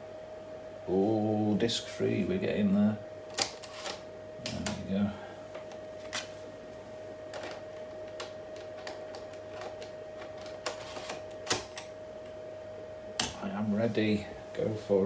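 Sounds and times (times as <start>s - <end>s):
laptop high whine: 0.0s - 15.0s.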